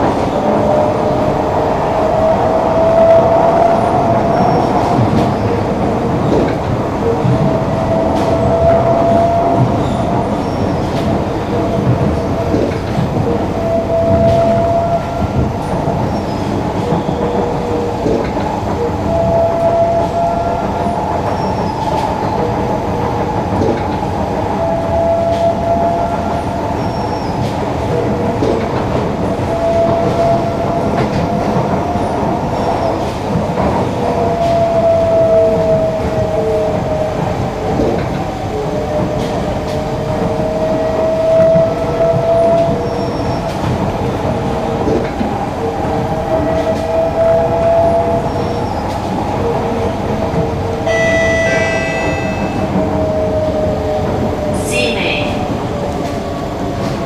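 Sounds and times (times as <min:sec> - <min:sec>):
train wheels rumbling on rails: 0:00.0 - 0:57.0
train whining tone: 0:00.0 - 0:57.0.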